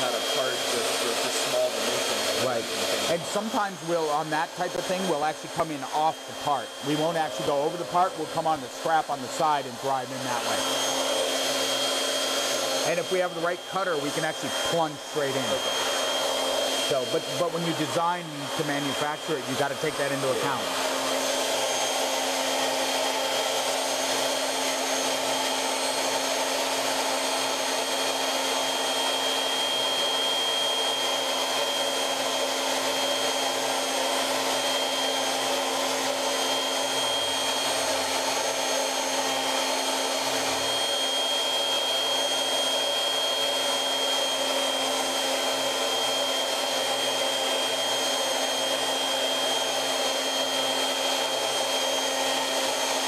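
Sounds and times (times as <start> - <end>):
router spindle high whine: 0.0 - 53.0
rushing hiss of cutting foam: 0.0 - 53.0.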